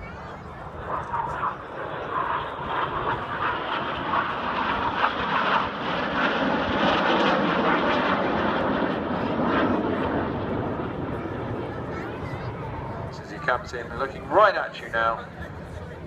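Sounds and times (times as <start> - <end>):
jet aircraft flying past: 0.0 - 16.0.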